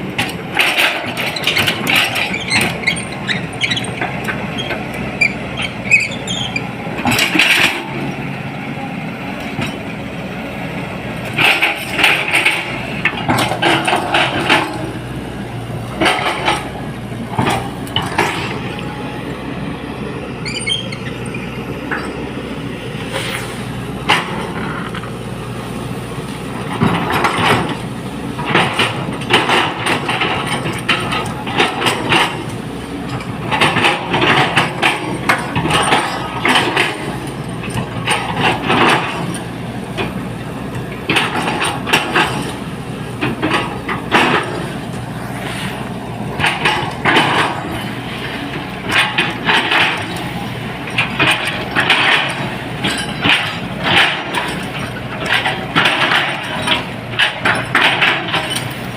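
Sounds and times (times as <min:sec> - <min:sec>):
excavator diesel engine: 0:00.0 - 0:58.9.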